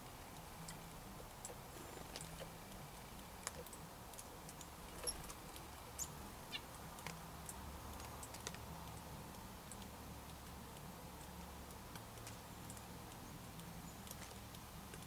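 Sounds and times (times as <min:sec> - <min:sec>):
light ticks and clicks: 0:00.0 - 0:15.0
songbird chirps: 0:00.0 - 0:15.0.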